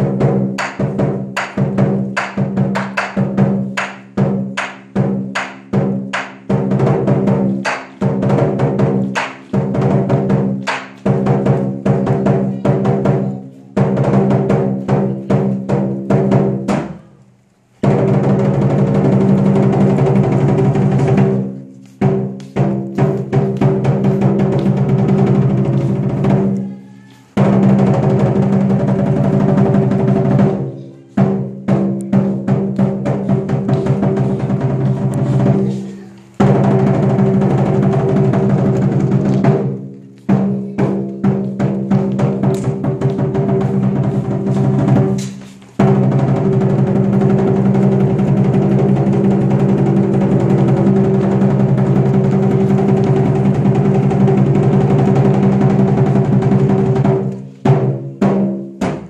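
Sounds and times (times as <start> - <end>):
big drum beating: 0.0 - 17.0, 17.8 - 59.0.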